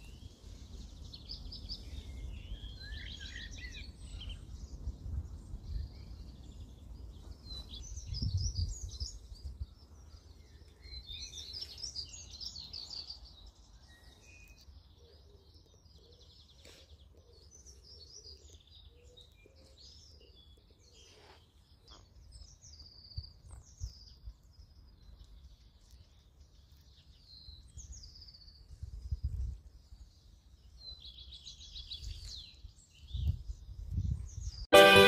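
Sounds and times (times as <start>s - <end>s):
songbirds chirping and singing: 0.0s - 35.0s.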